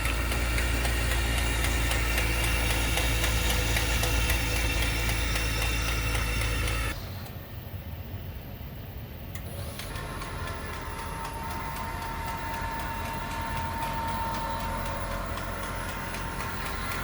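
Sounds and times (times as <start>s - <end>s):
faint regular ticking: 0.0s - 7.0s, 9.3s - 17.0s
machine motor hum: 0.0s - 7.8s, 9.3s - 17.0s
level machine whine: 0.0s - 17.0s.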